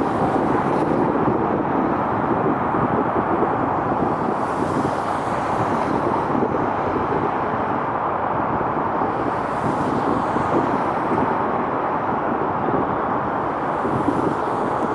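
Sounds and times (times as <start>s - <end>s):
steady outdoor roar: 0.0s - 14.9s.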